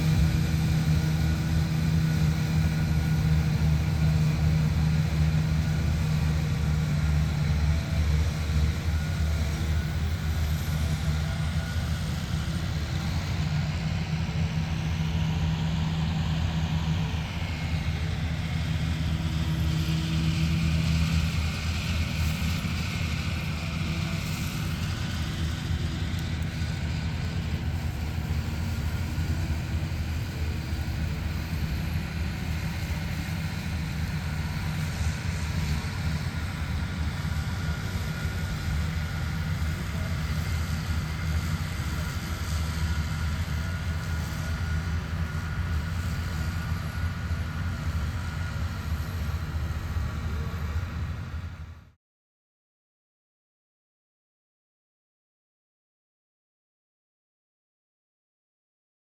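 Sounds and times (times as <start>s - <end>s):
engine droning: 0.0s - 52.0s.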